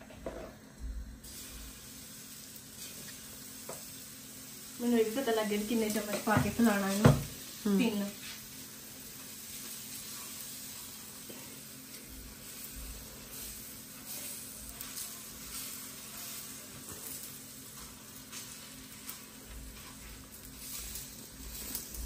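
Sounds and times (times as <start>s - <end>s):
batter sizzling on griddle: 0.0s - 22.0s.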